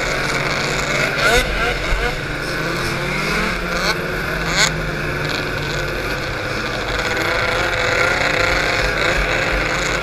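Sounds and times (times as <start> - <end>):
snowmobile engine racing: 0.0 - 10.0.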